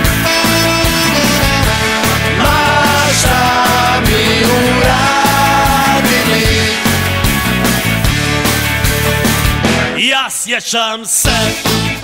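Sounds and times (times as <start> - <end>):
loud rock song: 0.0 - 12.0.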